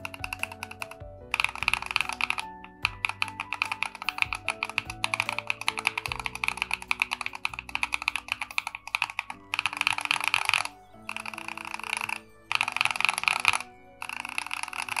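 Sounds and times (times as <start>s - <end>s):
background music: 0.0s - 15.0s
mechanical keyboard typing: 0.0s - 15.0s.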